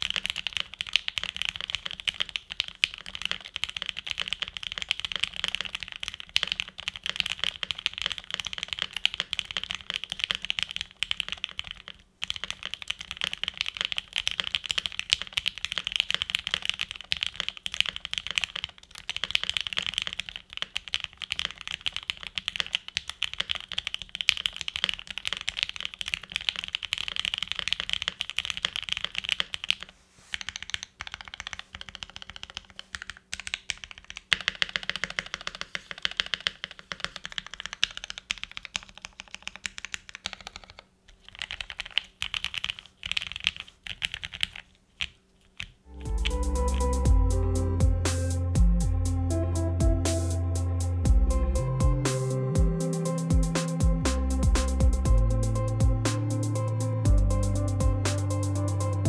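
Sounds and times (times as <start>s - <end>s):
keyboard typing: 0.0s - 50.7s, 51.6s - 59.0s.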